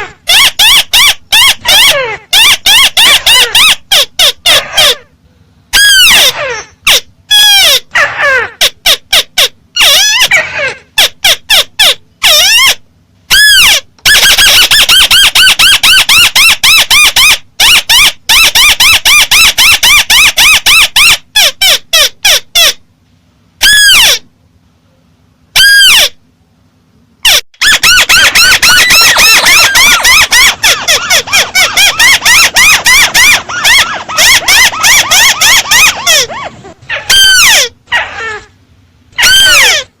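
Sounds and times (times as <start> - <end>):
bird calling with squawky notes: 0.0 - 5.1, 5.7 - 22.8, 25.6 - 26.2, 27.2 - 38.5, 39.1 - 40.0.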